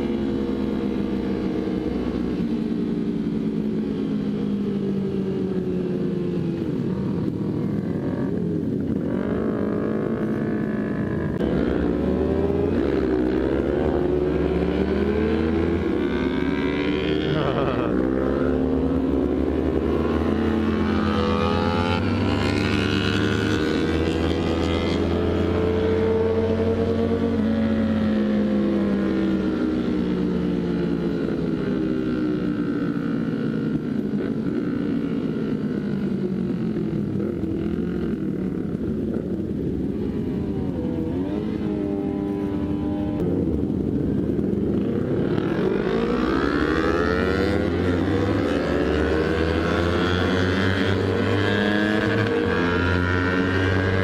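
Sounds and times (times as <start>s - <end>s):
motorcycle engine revving: 0.0s - 54.0s
other motorcycles nearby: 0.0s - 54.0s.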